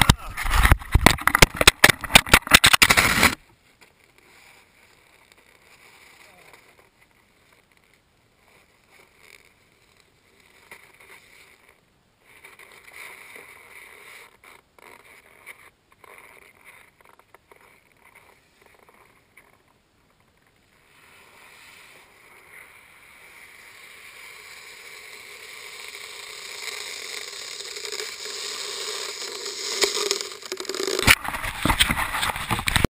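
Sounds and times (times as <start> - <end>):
rubbing against a camera: 0.0 - 3.4, 4.2 - 19.8, 20.4 - 32.9.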